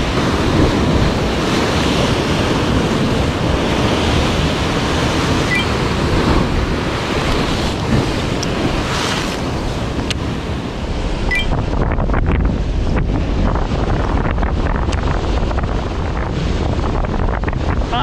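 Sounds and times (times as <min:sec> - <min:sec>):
sea surf washing ashore: 0:00.0 - 0:18.0
wind noise on microphone: 0:00.0 - 0:18.0.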